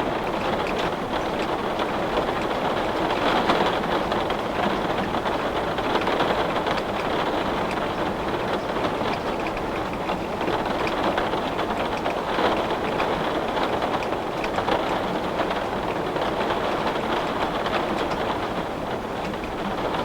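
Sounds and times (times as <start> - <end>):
heavy rain on a window: 0.0 - 20.0.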